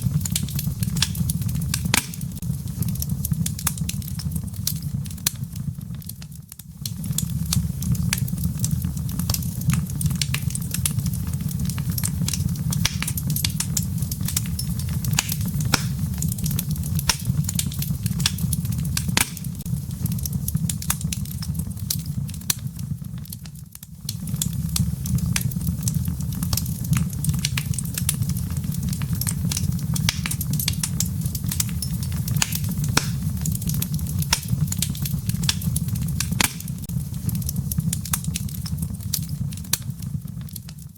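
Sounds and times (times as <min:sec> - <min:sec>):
low rumble of flame: 0:00.0 - 0:40.9
wood fire crackles and pops: 0:00.0 - 0:40.9.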